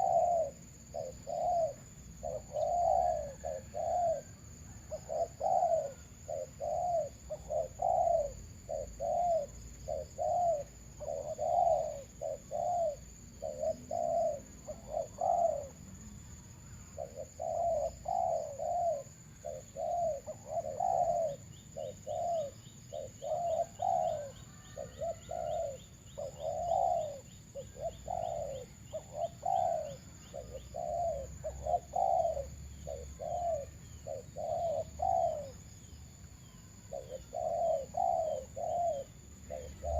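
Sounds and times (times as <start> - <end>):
dove cooing: 0.0 - 15.8, 16.6 - 39.9
faint high bird chirping: 0.0 - 39.9.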